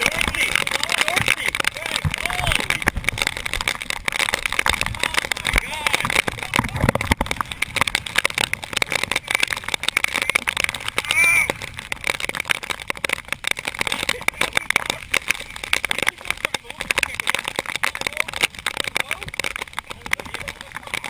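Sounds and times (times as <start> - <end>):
rain and wind hitting microphone: 0.0 - 21.0.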